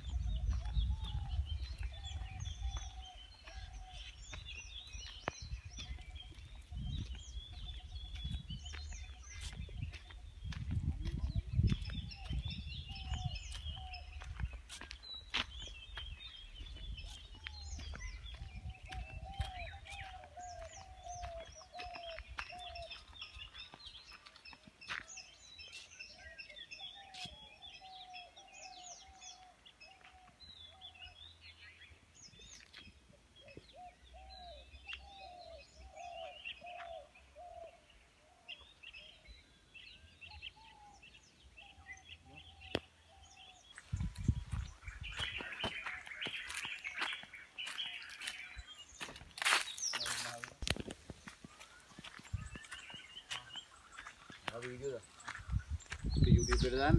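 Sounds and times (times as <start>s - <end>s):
birds chirping and calling: 0.0s - 56.9s.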